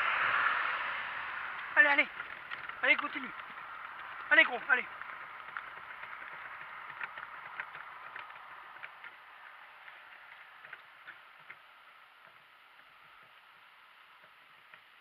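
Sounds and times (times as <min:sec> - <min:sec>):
donkey cart clicking: 0:01.4 - 0:15.0.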